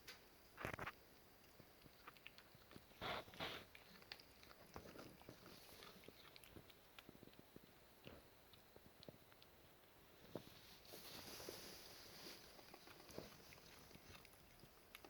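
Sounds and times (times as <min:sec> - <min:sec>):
cat chewing and crunching: 0:00.5 - 0:15.0.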